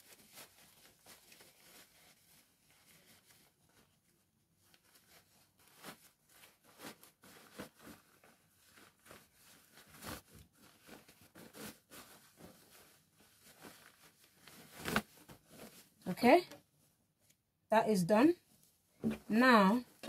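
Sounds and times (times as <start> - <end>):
fabric rustling: 0.0 - 17.3.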